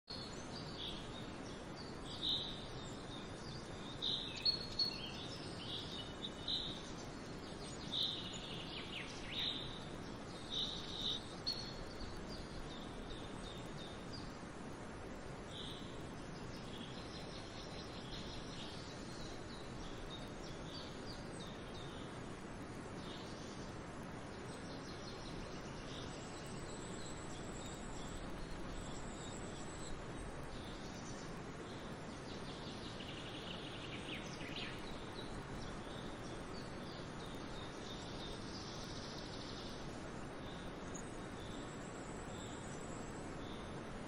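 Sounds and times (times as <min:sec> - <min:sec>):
background hiss: 0:00.1 - 0:44.0
birds chirping: 0:00.1 - 0:44.0.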